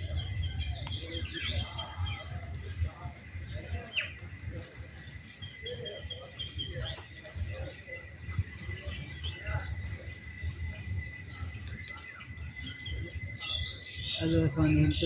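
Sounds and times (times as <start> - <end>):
bird chirps: 0.0 - 15.0
insects droning: 0.0 - 15.0.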